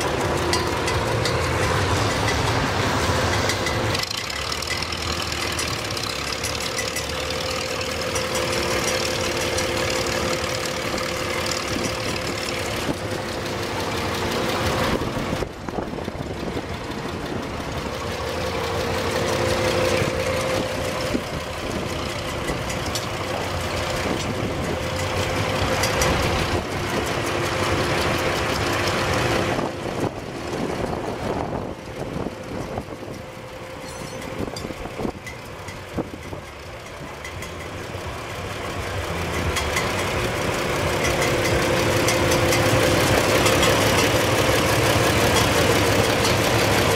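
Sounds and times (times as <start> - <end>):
tractor engine idling: 0.0 - 46.9.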